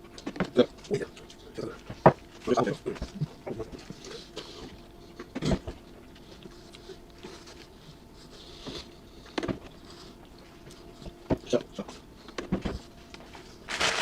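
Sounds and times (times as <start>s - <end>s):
chewing food: 0.0s - 13.5s.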